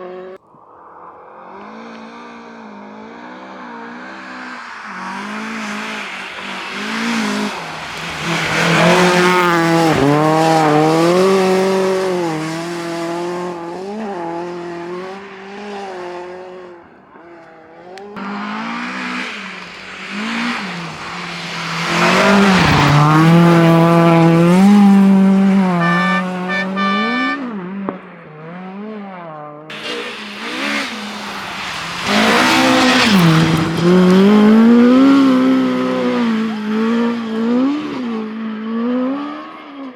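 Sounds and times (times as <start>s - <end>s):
rally cars passing at speed: 0.0s - 39.9s.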